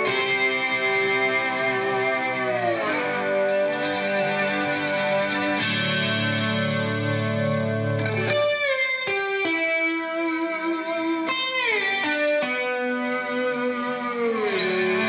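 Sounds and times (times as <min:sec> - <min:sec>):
electric guitar with effects: 0:00.0 - 0:15.0.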